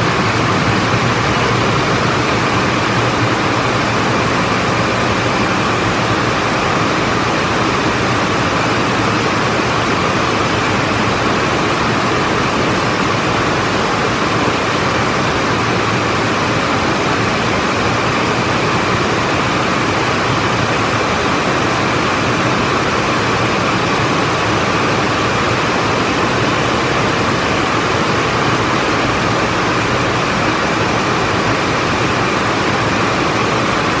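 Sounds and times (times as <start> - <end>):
weaving looms running: 0.0 - 34.0.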